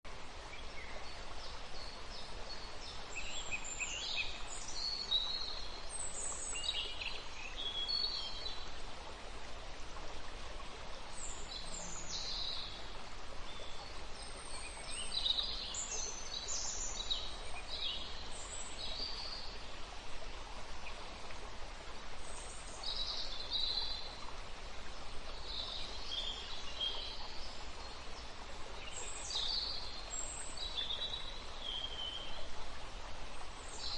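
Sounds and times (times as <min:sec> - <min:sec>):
steady background hiss: 0:00.1 - 0:33.9.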